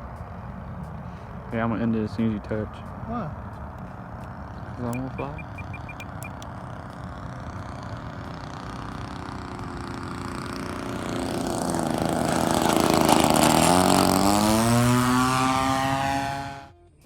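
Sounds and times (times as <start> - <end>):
model airplane engine: 2.9 - 16.7.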